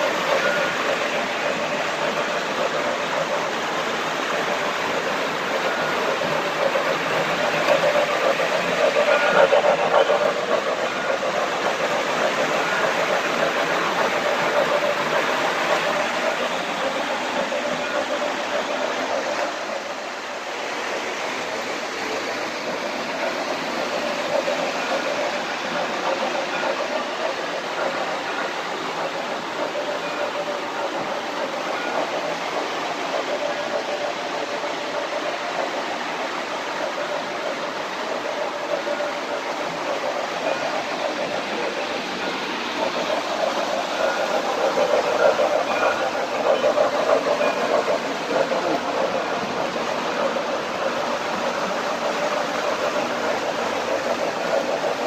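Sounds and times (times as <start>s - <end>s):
model trains rumbling on track: 0.0s - 55.0s.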